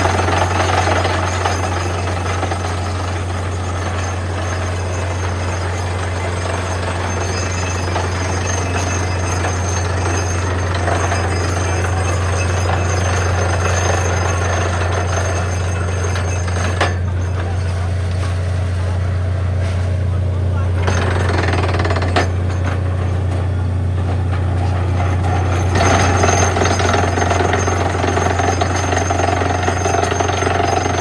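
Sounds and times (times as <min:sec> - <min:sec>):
drilling rattle: 0:00.0 - 0:19.6, 0:20.5 - 0:31.0
engine and compressor drone: 0:00.0 - 0:31.0.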